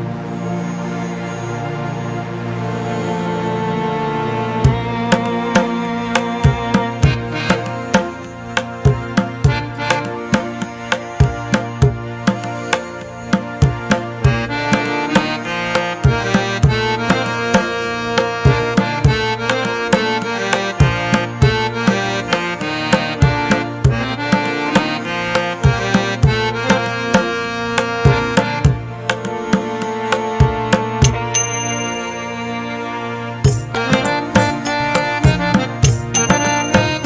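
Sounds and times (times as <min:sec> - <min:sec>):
instrumental melody: 0:00.0 - 0:37.0
steady drum beat: 0:04.7 - 0:15.3, 0:16.0 - 0:31.8, 0:33.4 - 0:37.0.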